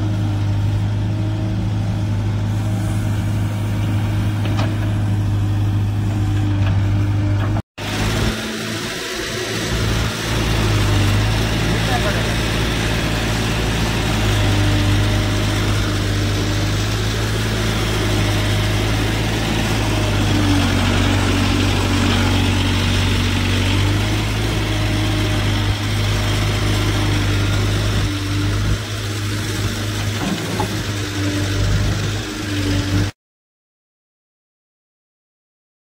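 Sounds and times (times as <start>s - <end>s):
diesel engine running: 0.0s - 33.1s.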